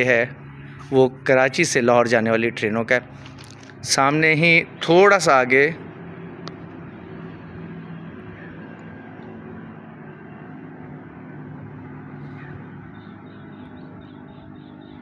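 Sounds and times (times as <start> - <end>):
road traffic drone: 0.0 - 15.0.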